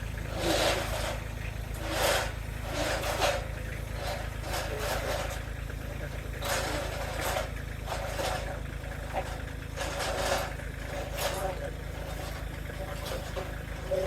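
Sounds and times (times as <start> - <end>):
engine running steadily: 0.0 - 14.0
rattling and scraping: 0.0 - 14.0.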